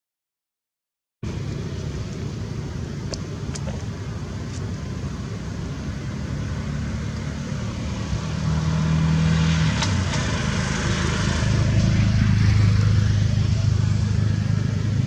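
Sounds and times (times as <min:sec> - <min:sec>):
vehicle engine humming: 0:01.2 - 0:15.0.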